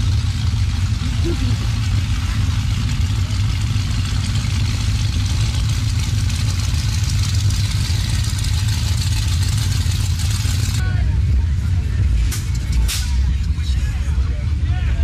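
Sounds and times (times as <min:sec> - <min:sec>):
car engines running at low speed: 0:00.0 - 0:15.0.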